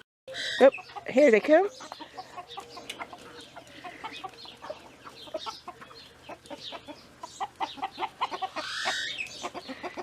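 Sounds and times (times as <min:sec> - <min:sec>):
chickens clucking: 0:00.3 - 0:10.0.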